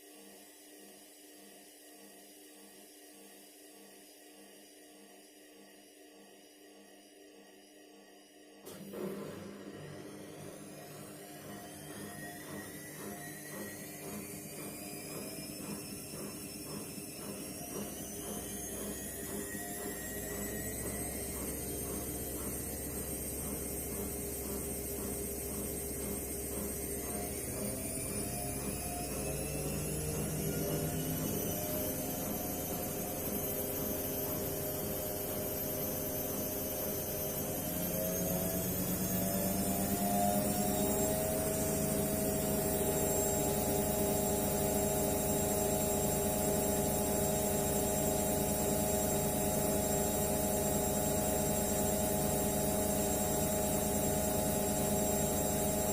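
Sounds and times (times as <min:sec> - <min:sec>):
washing machine spinning with whine: 0:00.0 - 0:55.9.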